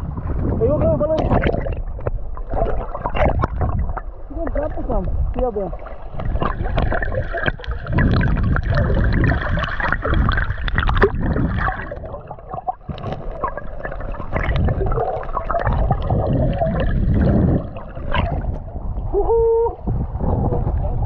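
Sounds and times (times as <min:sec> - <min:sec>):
water gurgling underwater: 0:00.0 - 0:21.0.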